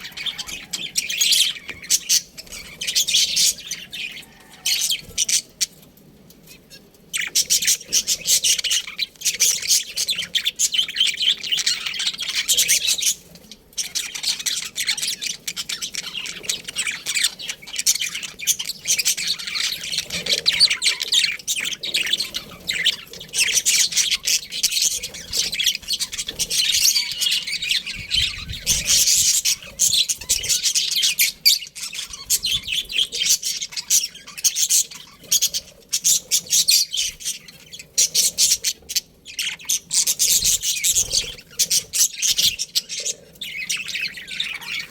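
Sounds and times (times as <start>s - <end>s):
budgerigars chirping: 0.0s - 5.9s, 6.5s - 44.9s.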